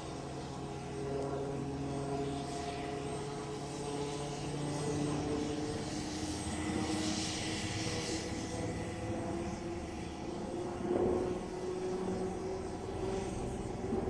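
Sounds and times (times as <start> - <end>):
helicopter flying overhead: 0.0 - 14.0.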